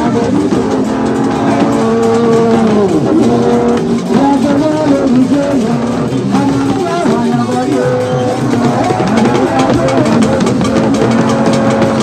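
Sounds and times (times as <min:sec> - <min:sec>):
music of sliding held notes: 0:00.0 - 0:12.0.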